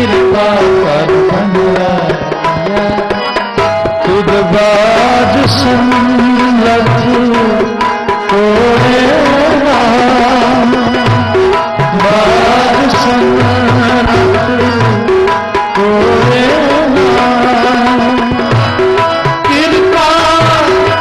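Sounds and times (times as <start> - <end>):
harmonium melody: 0.0 - 21.0
tabla drumming: 0.0 - 21.0.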